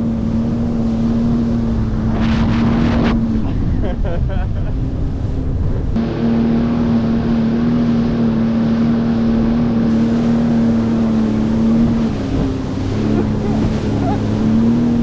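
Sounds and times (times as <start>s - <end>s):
jet ski engine running: 0.0s - 15.0s
wind on microphone: 0.0s - 15.0s.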